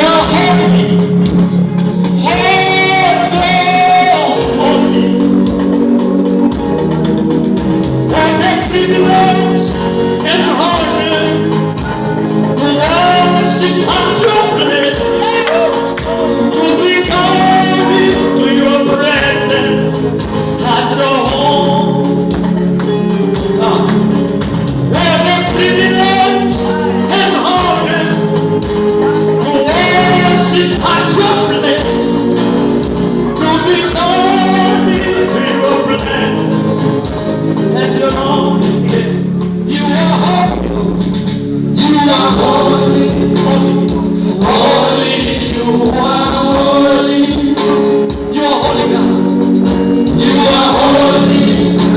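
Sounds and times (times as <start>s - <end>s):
sustained instrumental backing: 0.0s - 51.9s
voices singing gospel: 0.0s - 51.9s.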